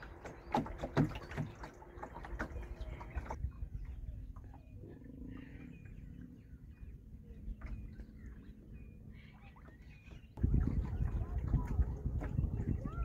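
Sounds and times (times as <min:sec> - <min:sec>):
waterbirds calling: 0:00.0 - 0:13.0
wind and water rumble: 0:00.0 - 0:13.0.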